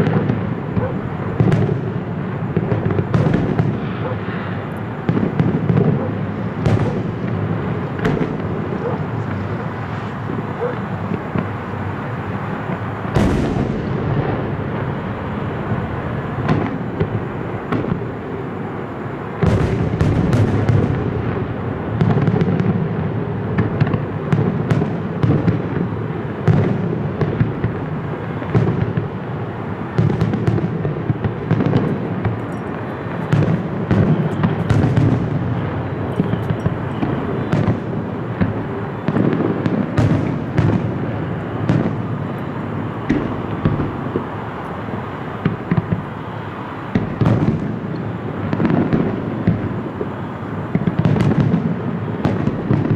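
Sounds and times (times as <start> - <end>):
fireworks bursting: 0.0 - 52.9.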